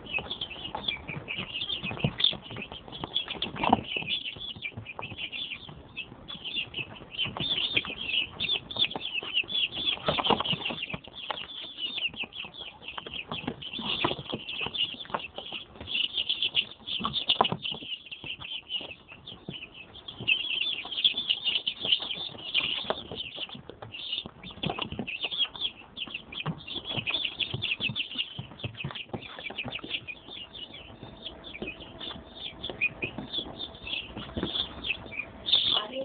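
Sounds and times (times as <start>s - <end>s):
chicks peeping: 0.0s - 36.0s
scratching and scuffling: 0.0s - 36.0s.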